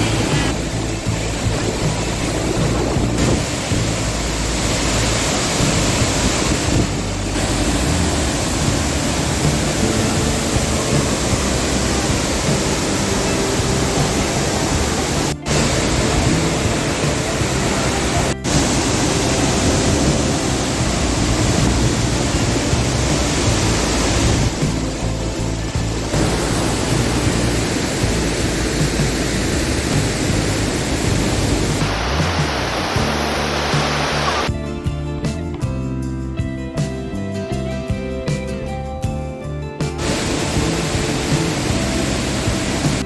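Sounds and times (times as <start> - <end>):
large waterfall rushing: 0.0 - 34.5, 40.0 - 43.0.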